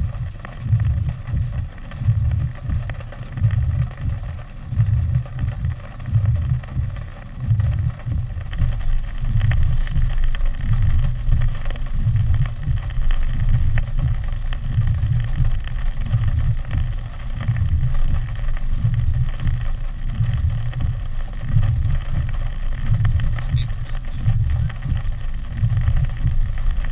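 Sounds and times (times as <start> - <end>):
steady hiss of rain: 0.0 - 26.9
wind gusts buffeting microphone: 0.0 - 26.9.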